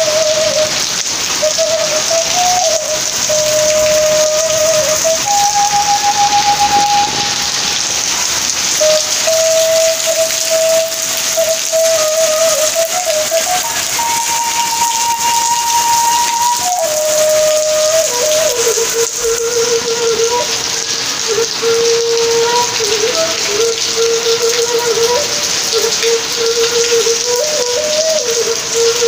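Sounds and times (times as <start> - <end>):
rain on plants and paving: 0.0 - 29.0
slow melody of long notes: 0.0 - 29.0.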